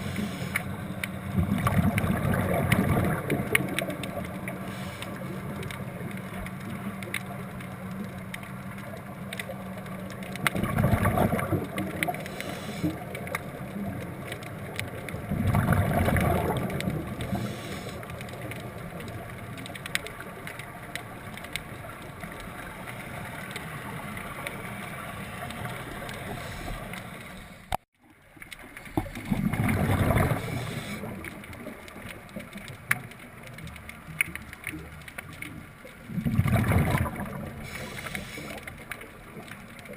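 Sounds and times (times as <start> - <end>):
crackle of fine clicks: 0.0 - 39.9
underwater bubbles rushing: 0.0 - 39.9.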